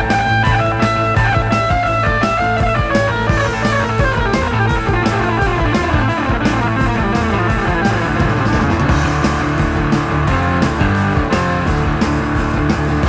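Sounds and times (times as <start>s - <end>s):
rock music with electric guitar: 0.0s - 13.0s.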